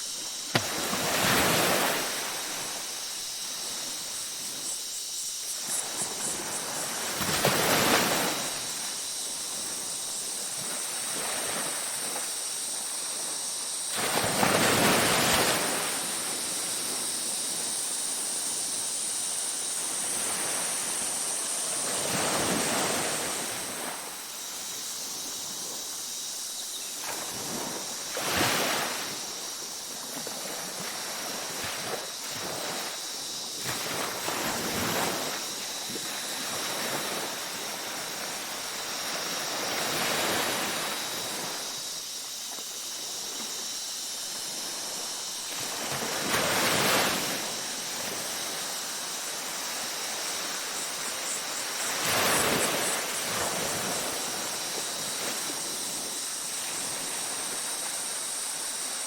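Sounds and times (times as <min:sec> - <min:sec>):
ocean waves breaking on beach: 0:00.0 - 0:26.2, 0:26.9 - 0:42.2, 0:43.0 - 0:59.0.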